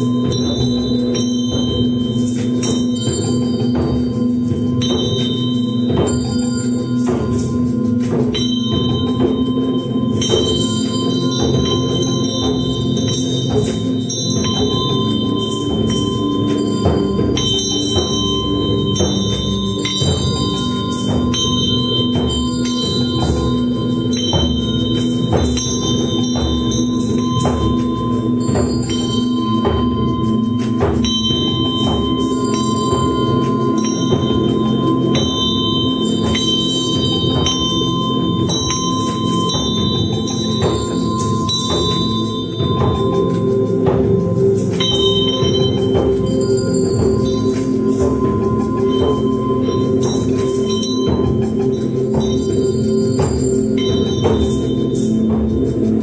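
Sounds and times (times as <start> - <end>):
bells and chimes ringing: 0.0 - 56.0
steady low drone: 0.0 - 56.0.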